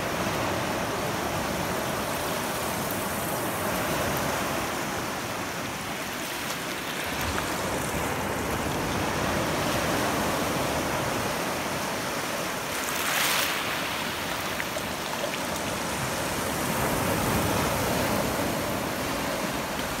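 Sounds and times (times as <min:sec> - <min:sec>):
surf washing over shells: 0:00.0 - 0:20.0.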